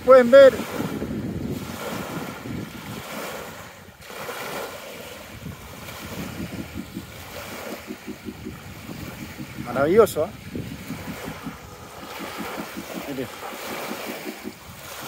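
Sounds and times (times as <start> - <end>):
small waves lapping on shore: 0.0 - 15.0
wind buffeting microphone: 0.2 - 15.0.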